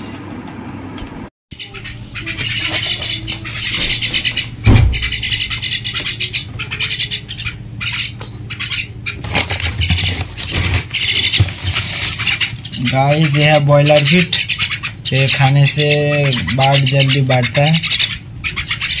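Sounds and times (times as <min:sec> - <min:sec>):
low steady hum: 0:00.0 - 0:19.0
myna bird chattering: 0:01.5 - 0:19.0.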